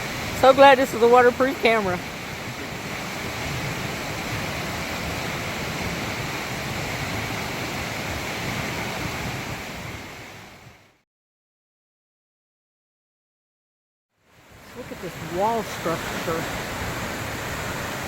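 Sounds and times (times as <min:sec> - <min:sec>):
waterfall rushing: 0:00.0 - 0:11.0, 0:14.3 - 0:18.0.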